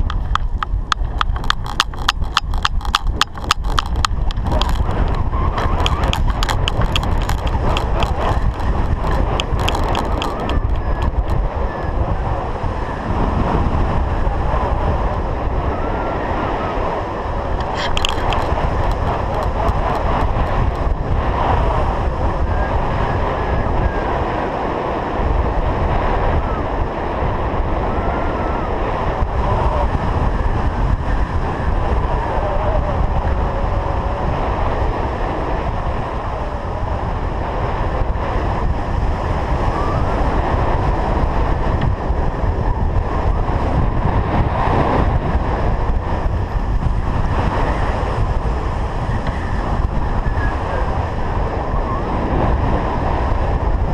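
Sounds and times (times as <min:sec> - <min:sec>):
strong wind on microphone: 0:00.0 - 0:53.9.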